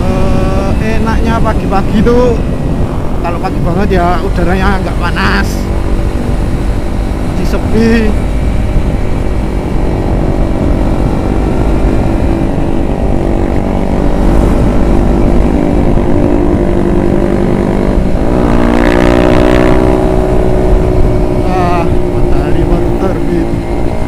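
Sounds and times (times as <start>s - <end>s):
motorcycle engine running: 0.0s - 24.0s
wind rumble on microphone: 0.0s - 24.0s.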